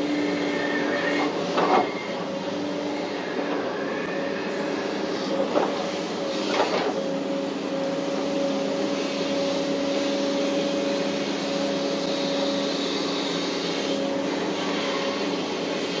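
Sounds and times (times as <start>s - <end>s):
excavator engine drone: 0.0s - 16.0s
hydraulic whine: 0.0s - 16.0s.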